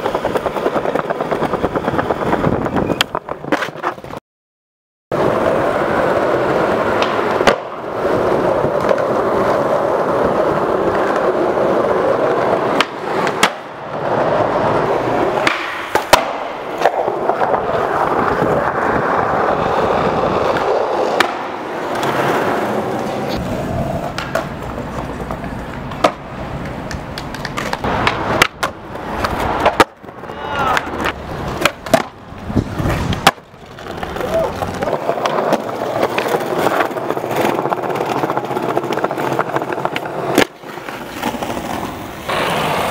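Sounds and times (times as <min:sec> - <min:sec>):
skateboard clacking: 0:00.0 - 0:04.2, 0:05.2 - 0:42.9
skateboard wheels rolling on concrete: 0:00.0 - 0:04.2, 0:05.1 - 0:42.9.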